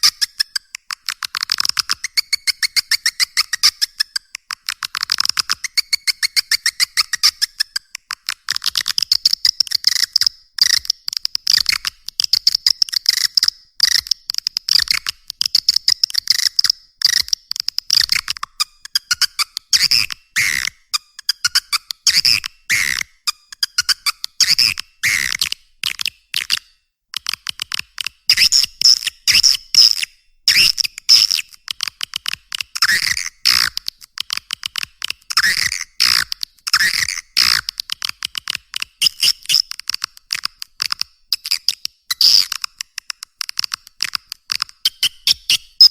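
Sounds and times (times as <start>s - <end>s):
buzzy bird chirps and clicks: 0.0s - 45.9s.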